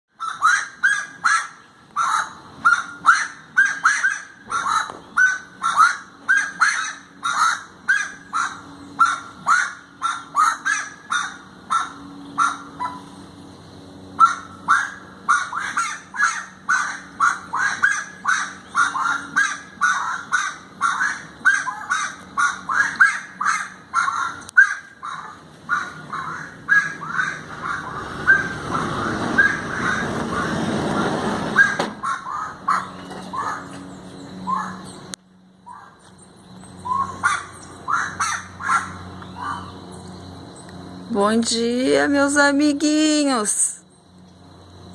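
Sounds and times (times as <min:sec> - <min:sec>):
harsh bird calls: 0:00.1 - 0:44.9.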